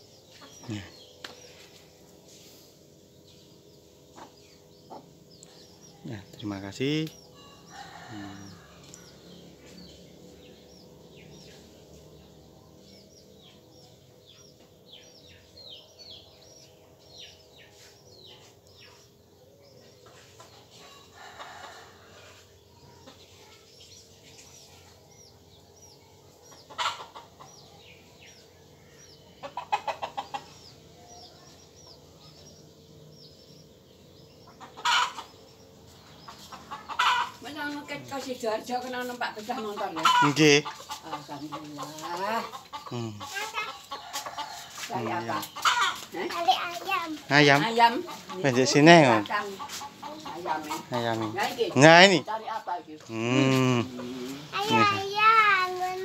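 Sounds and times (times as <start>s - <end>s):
chickens clucking and squawking: 0.0s - 56.0s
chicks chirping: 0.0s - 56.0s.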